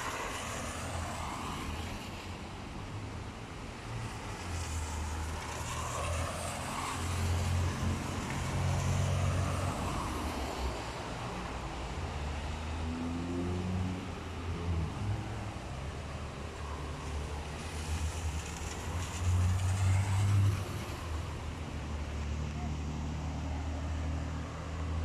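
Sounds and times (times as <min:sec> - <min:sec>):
tyres hissing on wet road: 0:00.0 - 0:25.0.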